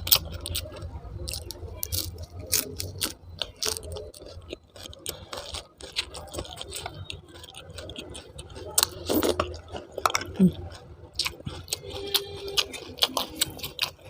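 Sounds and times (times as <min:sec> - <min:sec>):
mouth chewing food: 0:00.0 - 0:14.0.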